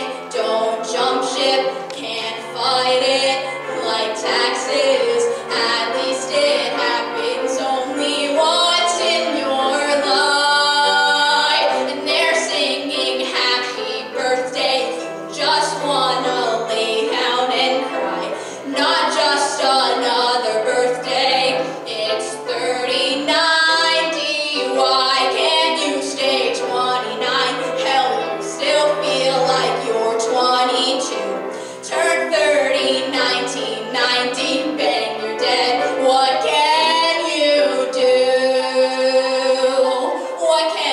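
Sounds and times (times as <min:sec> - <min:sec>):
woman singing into a microphone: 0:00.0 - 0:40.9.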